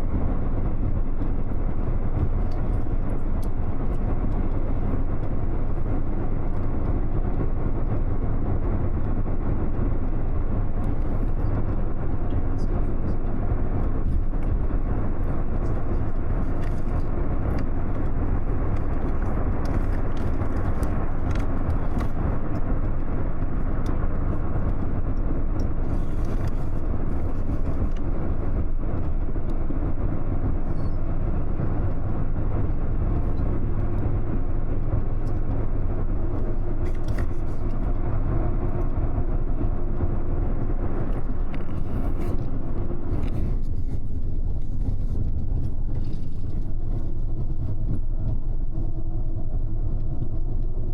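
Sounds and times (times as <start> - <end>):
bus engine hum: 0.0 - 50.9
tyre and road noise: 0.0 - 50.9.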